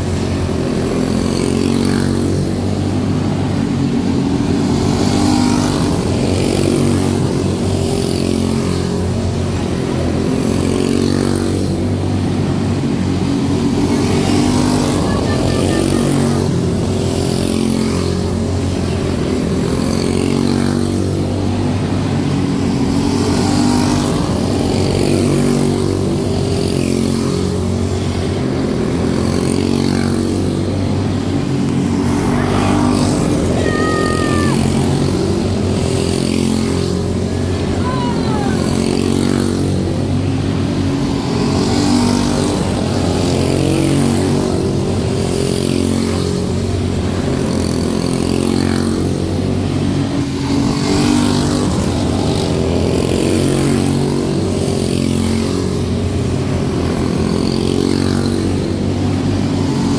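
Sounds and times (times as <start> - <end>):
race car engines: 0.0 - 59.9.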